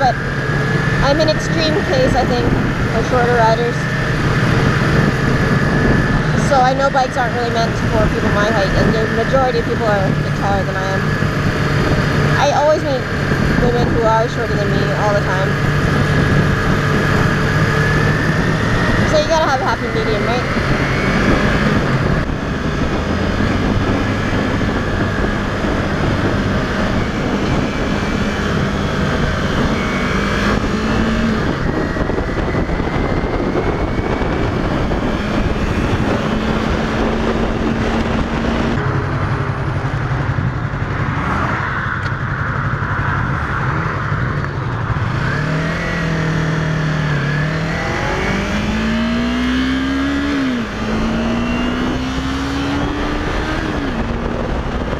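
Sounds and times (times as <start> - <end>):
motorcycle engine accelerating: 0.0 - 54.9
wind noise: 0.0 - 54.9.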